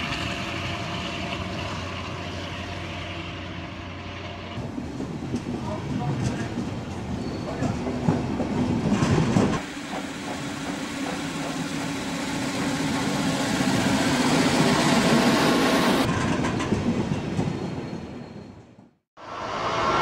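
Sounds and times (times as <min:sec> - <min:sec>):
diesel locomotives running past: 0:00.0 - 0:20.0
rail noise: 0:00.0 - 0:20.0.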